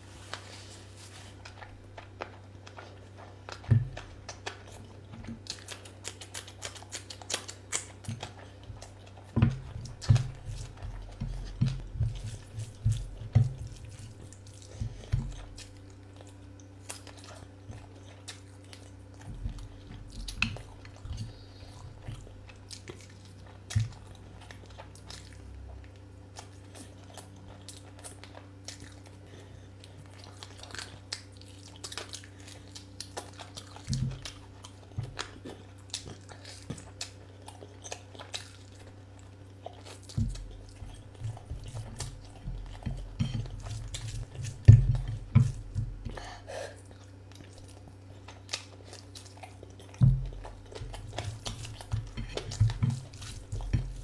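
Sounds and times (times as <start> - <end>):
steady low hum: 0.0 - 54.0
person chewing with mouth clicks: 1.3 - 54.0.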